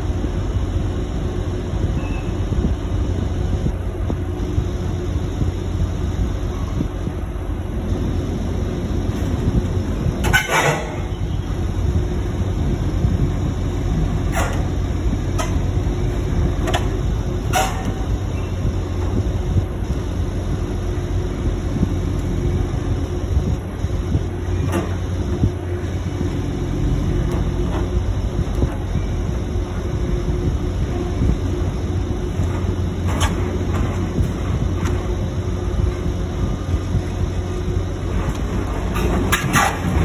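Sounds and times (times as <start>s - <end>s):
faint constant hum: 0.0s - 40.0s
heavy machinery rumbling: 0.0s - 40.0s.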